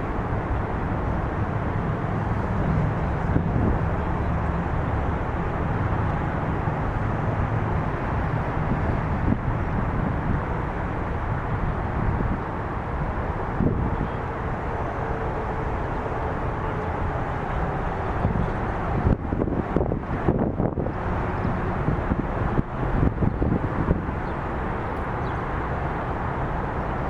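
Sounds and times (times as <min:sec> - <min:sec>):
constant noise haze: 0:00.0 - 0:27.0
engine hum: 0:00.0 - 0:27.0.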